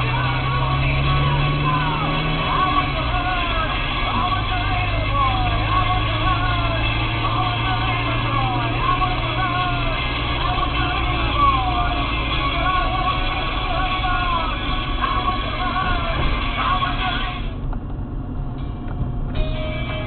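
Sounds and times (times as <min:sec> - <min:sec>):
car engine running: 0:00.0 - 0:20.0
music playing: 0:00.0 - 0:20.0.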